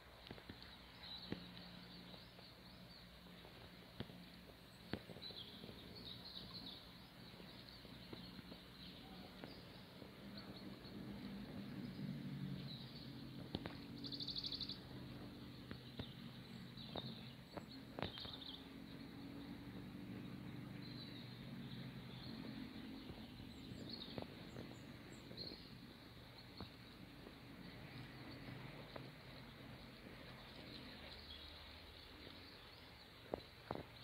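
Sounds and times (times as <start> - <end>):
low steady rumble: 0.0 - 34.0
small birds chirping: 0.0 - 34.0.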